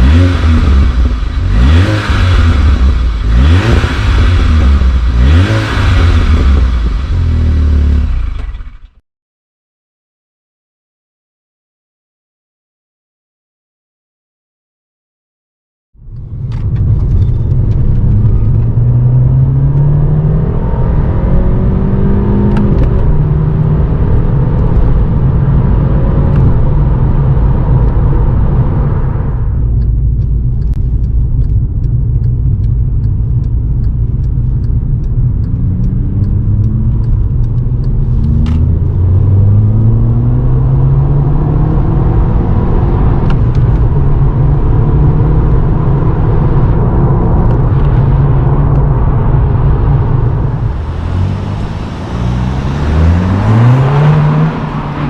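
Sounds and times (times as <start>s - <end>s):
car engine accelerating through gears: 0.0s - 9.0s, 16.2s - 55.0s.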